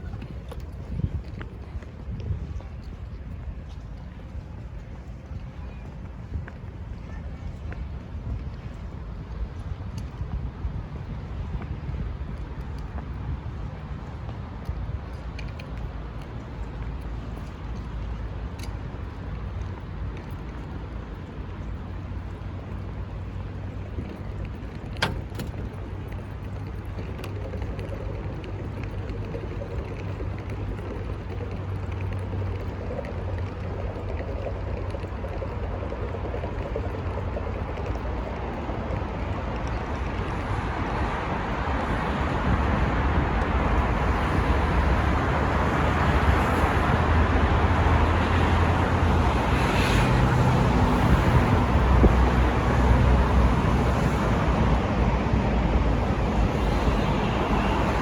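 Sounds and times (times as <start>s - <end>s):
road traffic rumble: 0.0s - 58.0s
wind noise: 0.0s - 58.0s.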